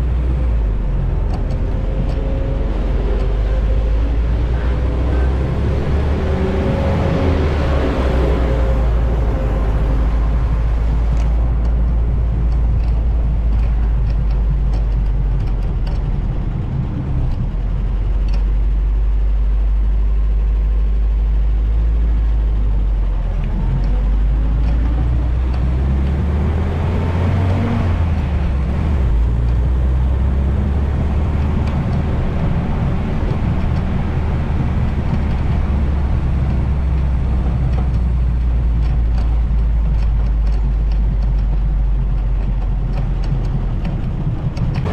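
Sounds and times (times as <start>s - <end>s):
jeep engine rumble: 0.0s - 44.9s
wind buffeting microphone: 0.0s - 44.9s.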